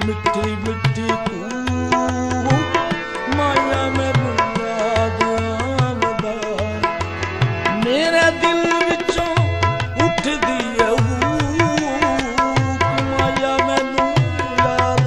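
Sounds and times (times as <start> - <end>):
tabla beat: 0.0 - 15.0
gliding string melody: 0.2 - 15.0.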